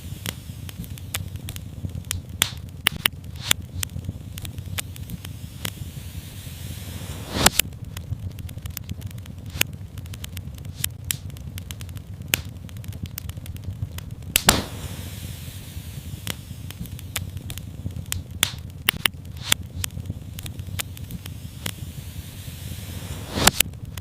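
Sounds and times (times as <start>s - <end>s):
faint hiss: 0.0s - 12.6s, 13.4s - 24.0s
loud pop from fire: 0.0s - 24.0s
wood fire crackling: 0.0s - 24.0s.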